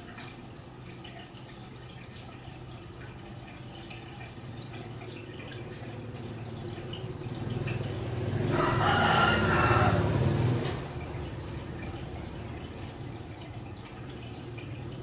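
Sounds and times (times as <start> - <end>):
water bubbling and splashing: 0.0 - 15.0
water trickling and dripping: 0.0 - 15.0.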